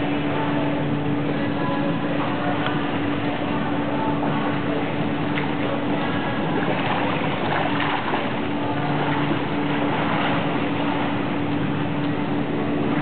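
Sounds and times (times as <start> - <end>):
low hum: 0.0 - 13.0
pool hall noise: 0.0 - 13.0
water splashing from swimming: 2.0 - 13.0.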